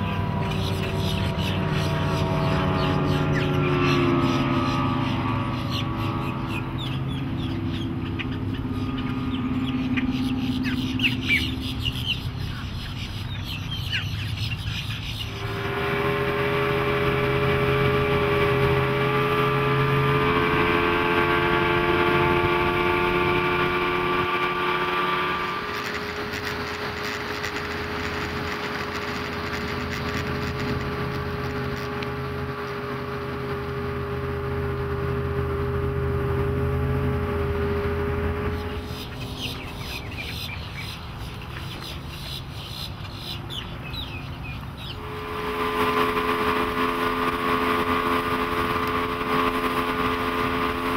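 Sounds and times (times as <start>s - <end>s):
outboard engine running: 0.0s - 50.9s
wind: 0.0s - 50.9s.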